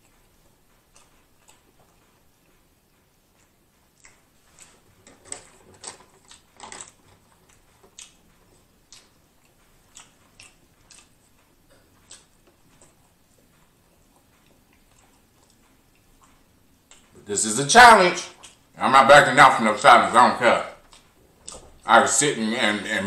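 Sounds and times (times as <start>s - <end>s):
person chewing with wet clicks: 0.0s - 17.3s, 18.3s - 18.9s, 19.5s - 22.2s.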